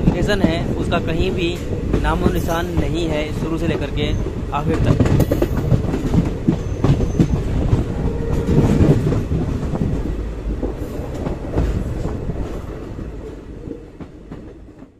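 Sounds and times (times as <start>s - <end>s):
train wheels clacking over track: 0.0s - 14.9s.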